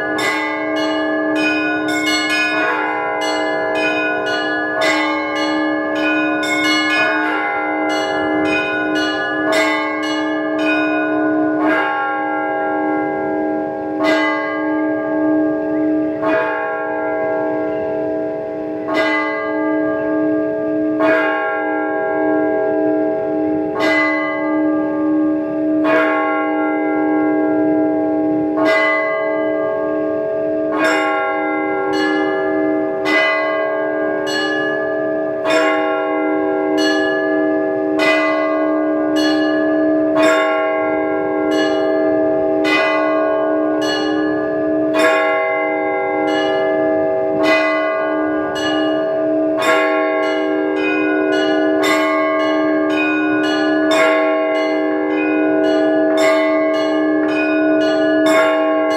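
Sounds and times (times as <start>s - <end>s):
church bells pealing: 0.0s - 58.9s
large bell hum: 0.0s - 58.9s.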